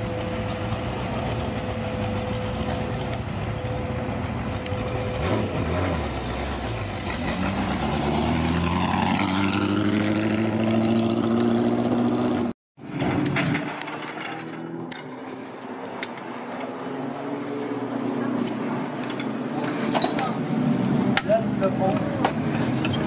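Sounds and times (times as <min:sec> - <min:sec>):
car engine idling and pulling away: 0:00.0 - 0:23.0.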